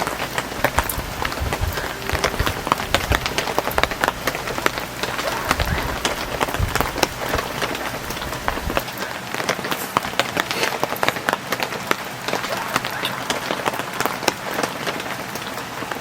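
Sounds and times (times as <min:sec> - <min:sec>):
heavy rain on a tent: 0:00.0 - 0:16.0.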